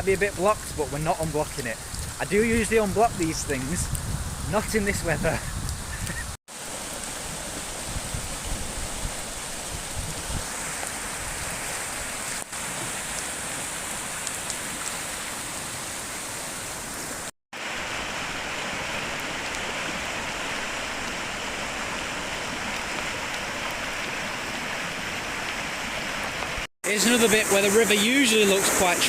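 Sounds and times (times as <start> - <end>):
brook rushing water: 0.0 - 29.0
rain: 0.0 - 29.0.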